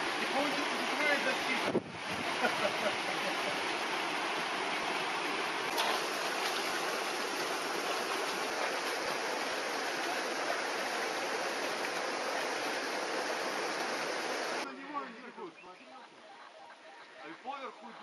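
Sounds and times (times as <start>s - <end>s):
stream running over rocks: 0.0s - 14.6s.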